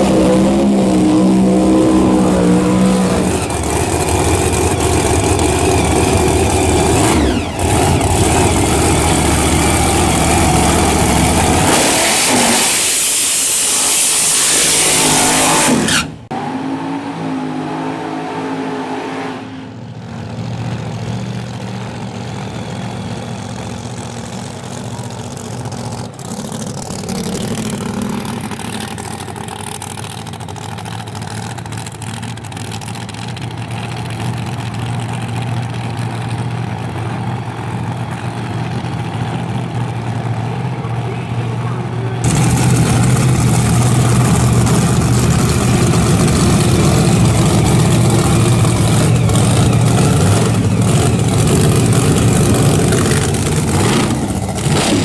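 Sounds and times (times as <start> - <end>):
loud race car engines: 0.0 - 55.0
steady engine rumble: 0.0 - 55.0.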